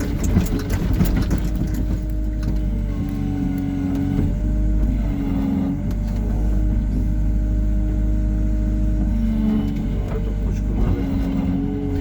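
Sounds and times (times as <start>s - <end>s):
diesel engine droning under load: 0.0s - 12.0s.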